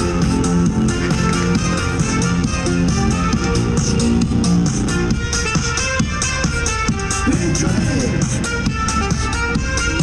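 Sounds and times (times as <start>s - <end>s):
music with a steady beat: 0.0s - 10.0s.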